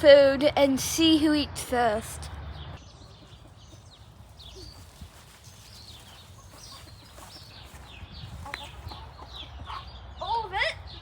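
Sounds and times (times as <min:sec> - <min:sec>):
small birds chirping: 0:01.4 - 0:11.0.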